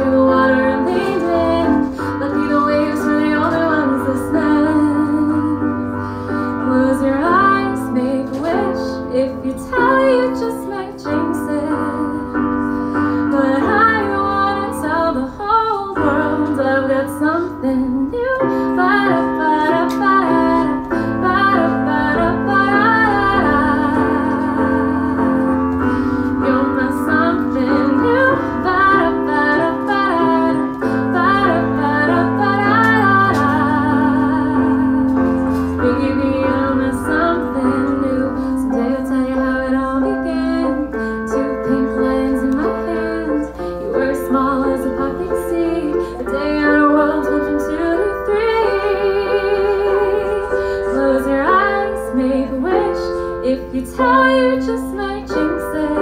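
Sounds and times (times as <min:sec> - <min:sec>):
keyboard piano chords: 0:00.0 - 0:56.0
woman singing: 0:00.0 - 0:56.0.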